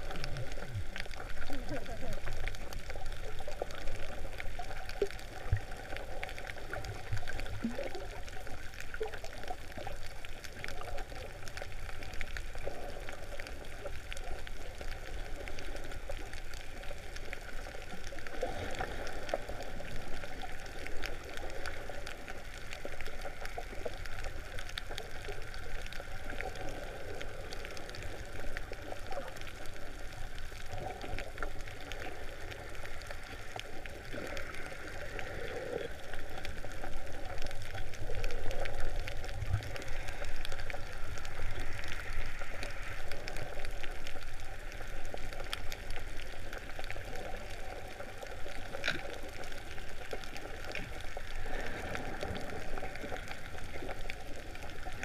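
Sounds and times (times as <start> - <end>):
faint underwater clicks: 0.0 - 55.0
muffled underwater rush: 0.0 - 55.0.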